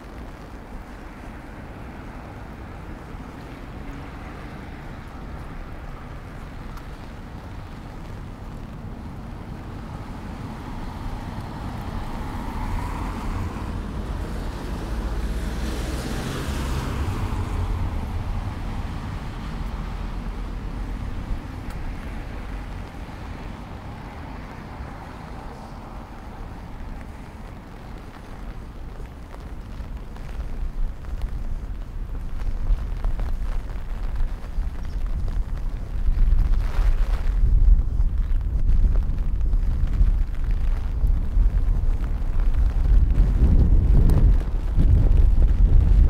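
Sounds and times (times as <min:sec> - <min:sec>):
car tyres hissing on wet road: 0:00.0 - 0:46.0
wind buffeting microphone: 0:00.0 - 0:46.0.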